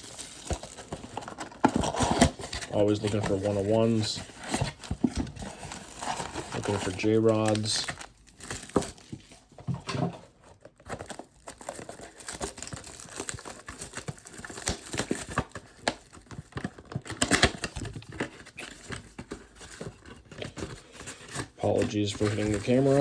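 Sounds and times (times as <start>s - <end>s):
plastic wrap crinkling and tearing: 0.0s - 9.5s, 10.4s - 23.0s.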